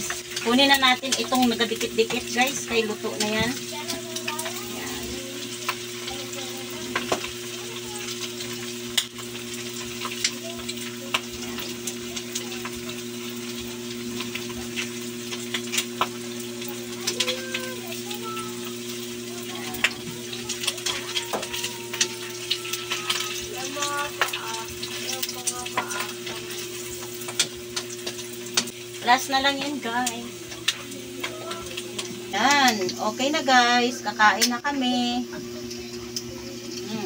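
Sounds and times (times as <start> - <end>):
oil popping and crackling: 0.0 - 37.0
pork sizzling in hot oil: 0.0 - 37.0.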